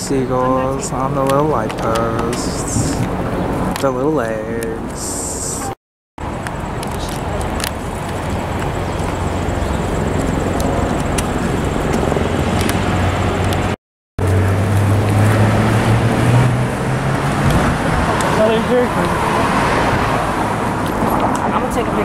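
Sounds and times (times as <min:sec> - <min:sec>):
low engine hum: 0:00.0 - 0:22.0
passing vehicles: 0:00.0 - 0:22.0.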